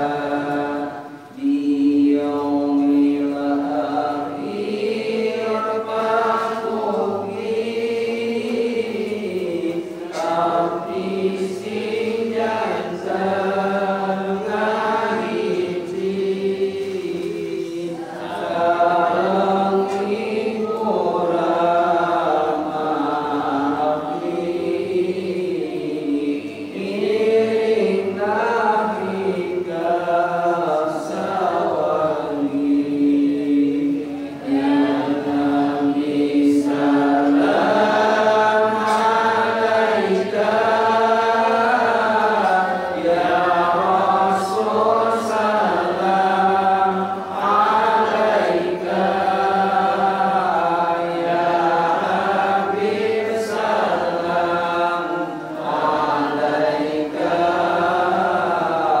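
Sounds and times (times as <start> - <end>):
men chanting into a microphone: 0.0 - 59.0.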